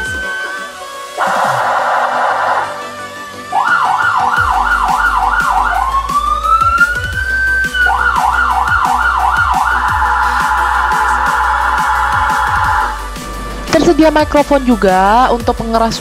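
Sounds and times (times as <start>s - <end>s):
electronic siren: 0.0s - 13.2s
background music with bass beat: 0.0s - 16.0s.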